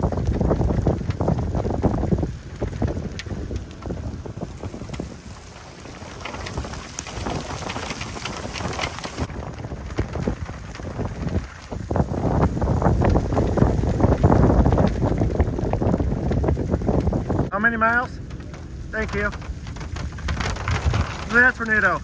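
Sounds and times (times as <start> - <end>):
rain drops ticking: 0.0 - 22.0
wind buffeting microphone: 0.0 - 22.0.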